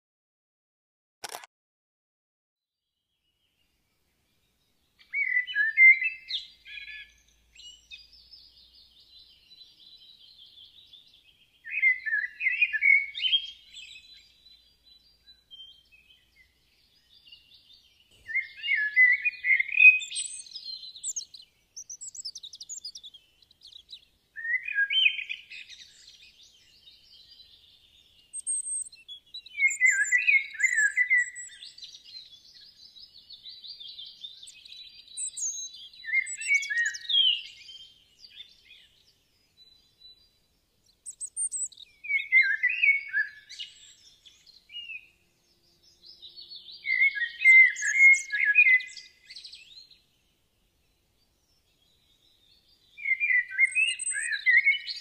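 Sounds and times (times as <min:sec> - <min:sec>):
birds chirping song phrases: 0:03.0 - 0:55.0.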